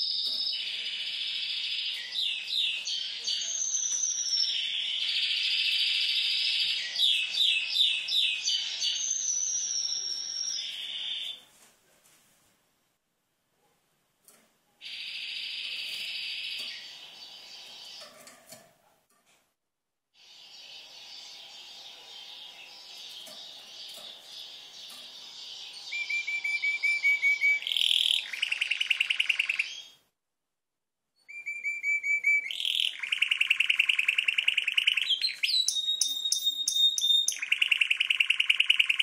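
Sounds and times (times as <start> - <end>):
canary singing and trilling: 0.0 - 11.4, 14.8 - 18.6, 20.2 - 30.0, 31.2 - 39.0.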